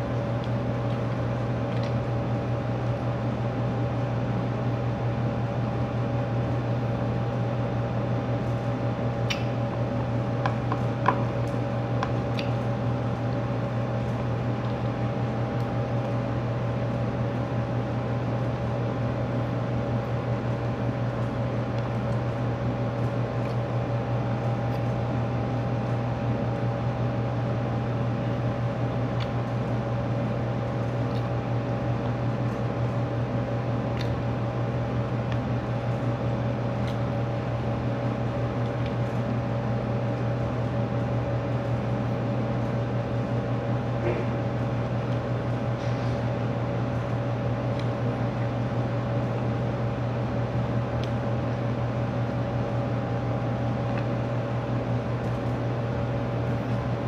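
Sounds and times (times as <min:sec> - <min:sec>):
air conditioner humming: 0:00.0 - 0:57.0.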